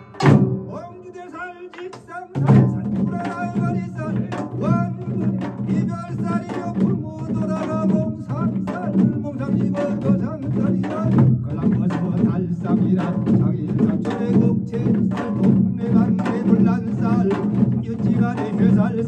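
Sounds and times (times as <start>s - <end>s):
man chanting: 0.0s - 19.0s
rapid drumming: 0.0s - 19.0s.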